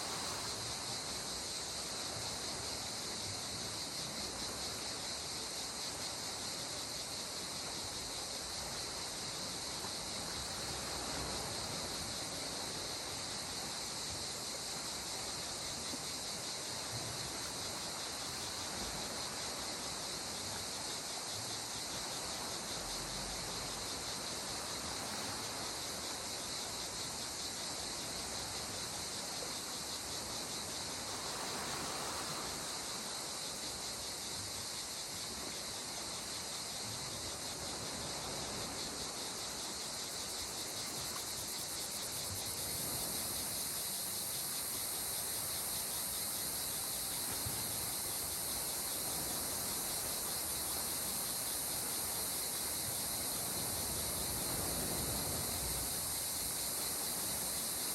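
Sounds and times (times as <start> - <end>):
calm sea water: 0.0 - 57.9
insects chirring: 0.0 - 57.9.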